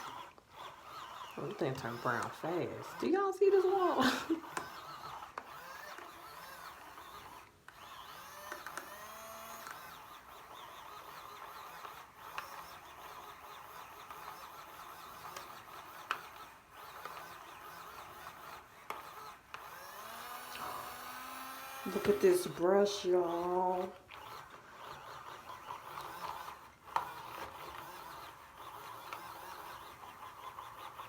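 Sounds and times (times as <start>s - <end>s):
small electric motor running: 0.0s - 31.0s.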